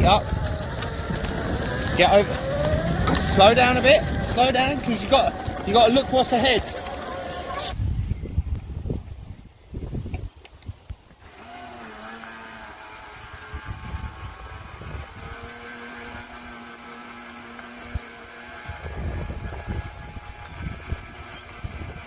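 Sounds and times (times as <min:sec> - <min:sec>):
electric motorbike motor whining: 0:00.0 - 0:10.2, 0:11.1 - 0:22.0
low wind rumble: 0:00.0 - 0:11.4, 0:12.7 - 0:16.7, 0:17.8 - 0:22.0.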